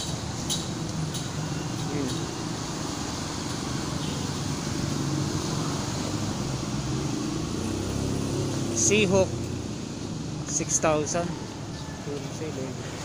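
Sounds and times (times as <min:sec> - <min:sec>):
traffic noise: 0:00.0 - 0:13.0
vehicle engine humming: 0:00.0 - 0:13.0.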